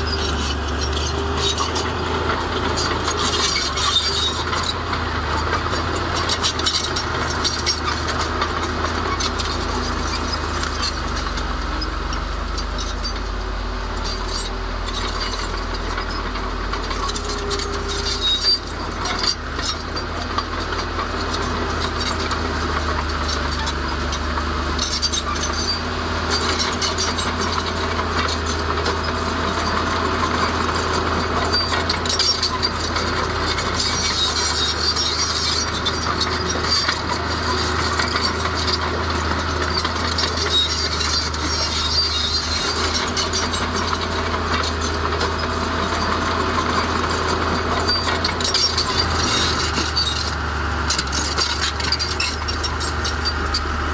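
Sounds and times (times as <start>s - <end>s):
diesel machinery engine rumble: 0.0s - 53.9s.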